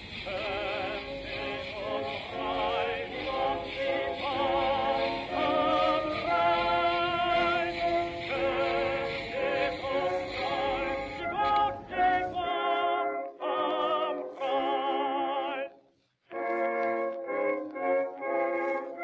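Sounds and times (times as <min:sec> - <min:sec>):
operatic singing with music: 0:00.0 - 0:15.8.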